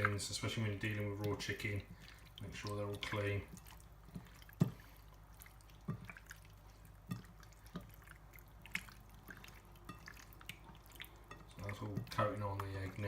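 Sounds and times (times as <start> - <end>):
wet squelches of raw chicken: 0.0 - 13.0.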